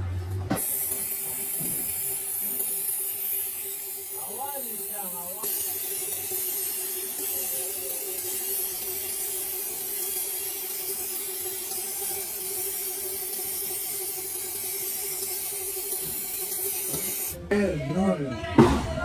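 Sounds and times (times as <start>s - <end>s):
steady hiss: 0.6s - 17.4s.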